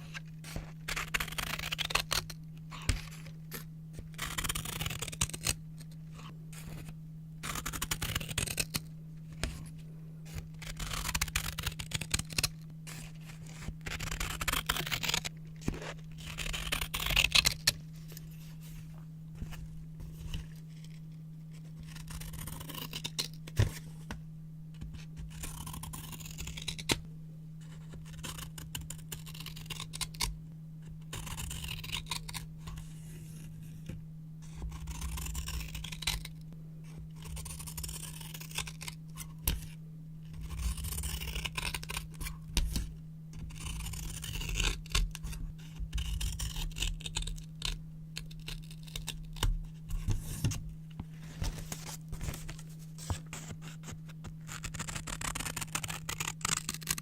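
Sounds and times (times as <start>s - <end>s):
low hum: 0.0s - 56.9s
scissors cutting paper: 0.1s - 9.7s, 10.3s - 18.4s, 19.4s - 24.0s, 24.8s - 27.0s, 27.6s - 30.3s, 31.1s - 36.4s, 37.2s - 50.6s, 51.2s - 57.0s.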